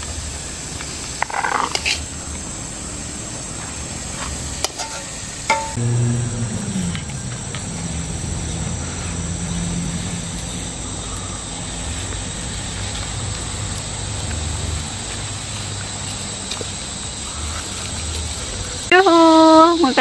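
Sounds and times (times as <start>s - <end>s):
high insect drone: 0.0s - 20.0s
low uneven rumble: 2.0s - 18.9s.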